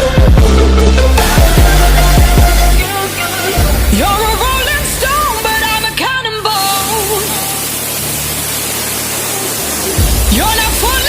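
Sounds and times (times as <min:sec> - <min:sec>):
person singing pop song: 0:00.0 - 0:08.0, 0:09.1 - 0:11.0
waterfall roaring: 0:01.2 - 0:11.0.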